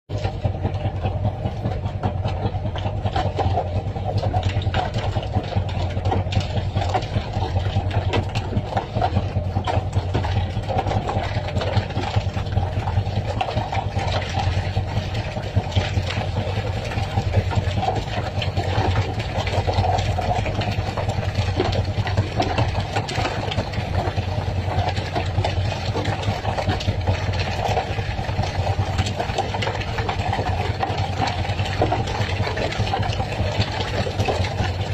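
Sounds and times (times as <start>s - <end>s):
boat engine running: 0.1s - 34.9s.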